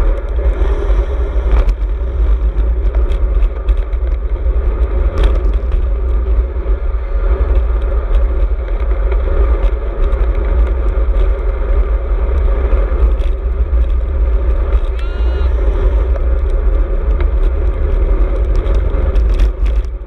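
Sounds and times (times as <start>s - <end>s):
bike clicking and rattling: 0.0s - 20.0s
wind buffeting microphone: 0.0s - 20.0s.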